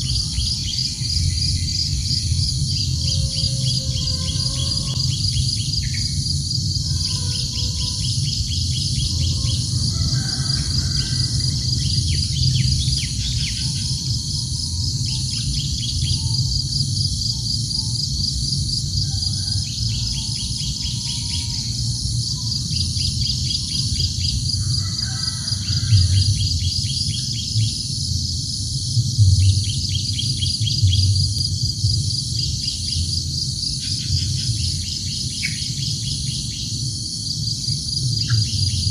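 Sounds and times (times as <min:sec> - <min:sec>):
insect chorus with pulsing trill: 0:00.0 - 0:38.9.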